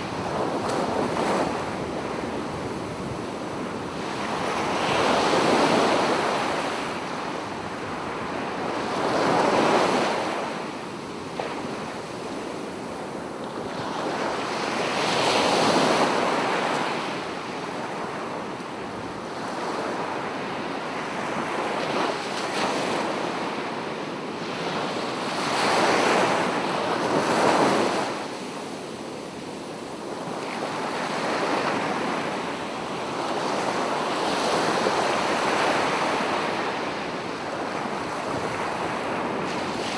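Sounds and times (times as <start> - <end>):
ocean waves breaking on a beach: 0.0 - 39.9.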